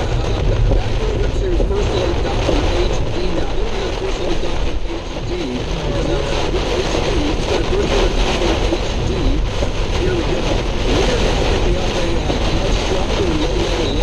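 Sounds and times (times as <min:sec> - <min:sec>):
muffled indistinct voice: 0:00.0 - 0:14.0
rain noise: 0:00.0 - 0:14.0
road and engine rumble in car: 0:00.0 - 0:14.0.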